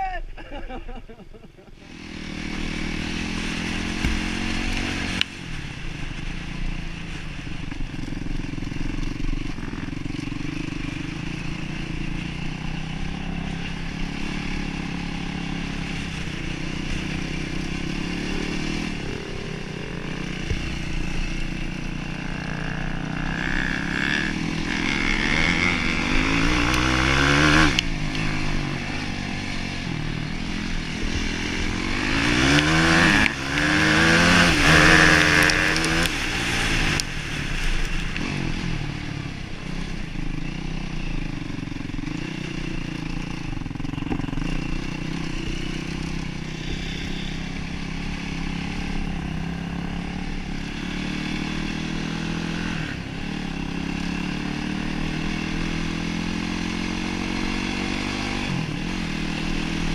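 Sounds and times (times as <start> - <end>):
quad engine revving: 1.8 - 5.2, 9.8 - 59.9.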